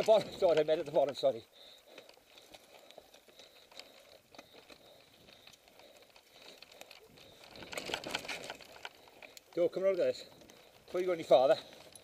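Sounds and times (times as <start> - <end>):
bike rattling: 0.0 - 12.0
bike tyres crunching over dirt: 0.0 - 12.0.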